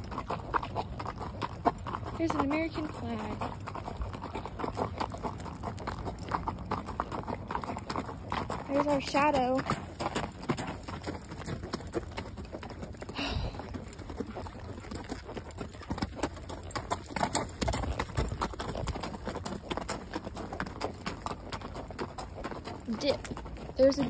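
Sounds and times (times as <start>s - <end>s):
hooves clopping on gravel: 0.0s - 24.0s.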